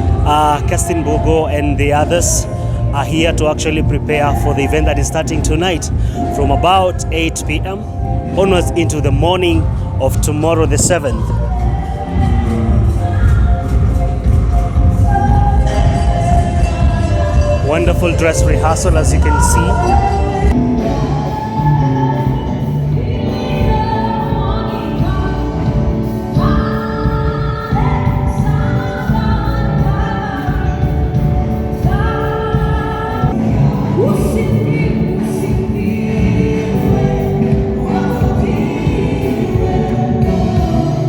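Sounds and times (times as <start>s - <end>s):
band playing: 0.0s - 41.0s
choir singing: 0.0s - 41.0s.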